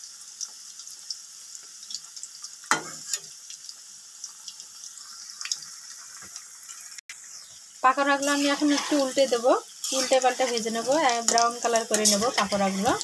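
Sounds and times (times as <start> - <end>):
deep-frying sizzle and crackles: 0.0 - 13.0.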